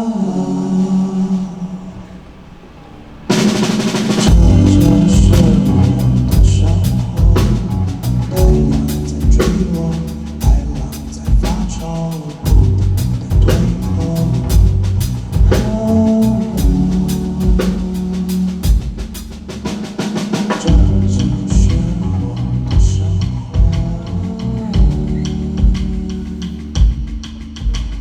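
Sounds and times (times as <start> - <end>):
sustained bass notes: 3.0 - 28.0
drum kit playing steady beat: 3.3 - 28.0.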